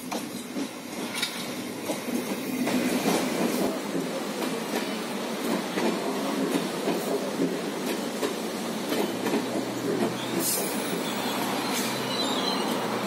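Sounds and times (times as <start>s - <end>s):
clacks over rail joints: 0.0s - 11.0s
train wheels rumbling on rail: 0.0s - 13.0s.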